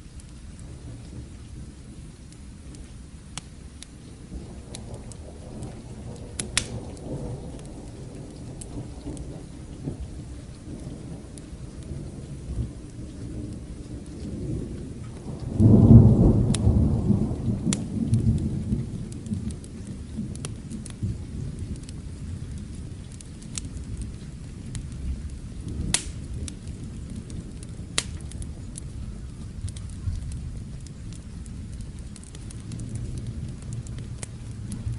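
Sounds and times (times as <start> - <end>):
rain falling: 0.0 - 34.9
thunder rumbling: 0.0 - 34.9
wood fire crackling: 0.0 - 34.9.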